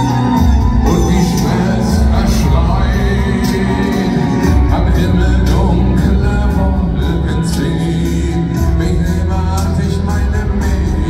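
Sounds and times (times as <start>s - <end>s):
metal band playing live: 0.0s - 11.0s
person singing: 0.0s - 11.0s.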